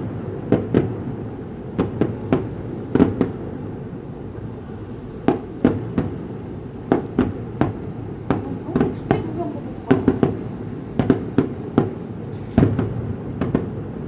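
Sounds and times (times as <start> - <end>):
fireworks bangs: 0.0 - 3.8, 4.4 - 14.0.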